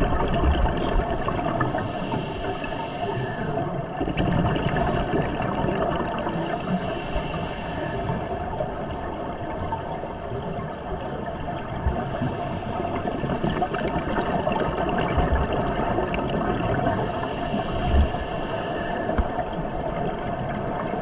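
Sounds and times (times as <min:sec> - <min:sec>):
underwater bubbling hiss: 0:00.0 - 0:21.0.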